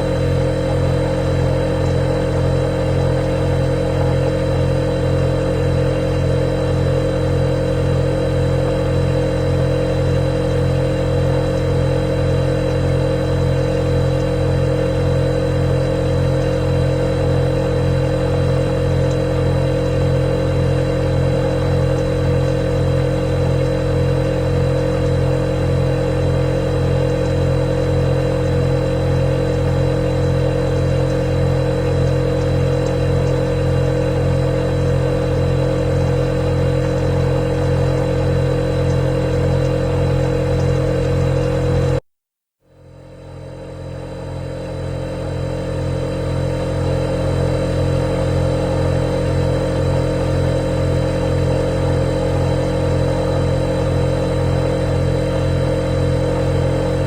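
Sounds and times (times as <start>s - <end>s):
refrigerator hum: 0.0s - 42.0s, 42.7s - 57.0s.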